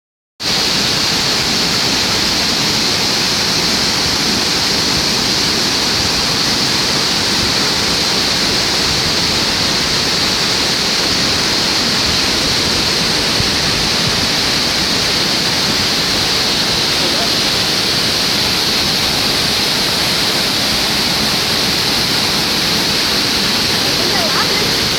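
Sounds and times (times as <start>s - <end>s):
waterfall rushing: 0.4s - 24.9s.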